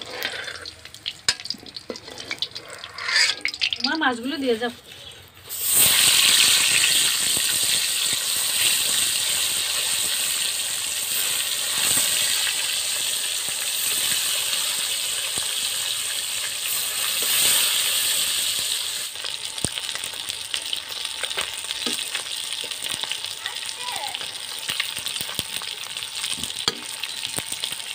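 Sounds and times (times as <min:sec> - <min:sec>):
fish sizzling in hot oil: 0:00.0 - 0:27.9.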